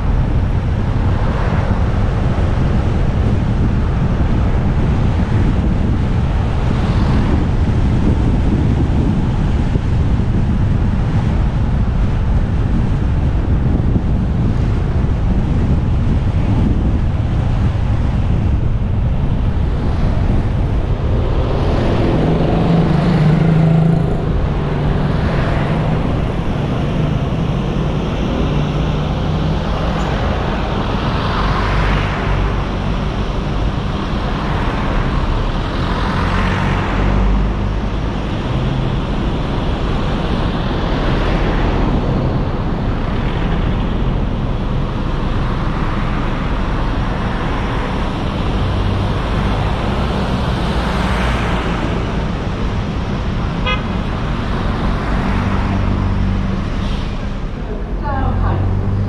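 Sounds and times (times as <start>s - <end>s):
passing traffic: 0.0s - 59.0s
road noise: 0.0s - 59.0s
wind rushing over microphone: 0.0s - 59.0s.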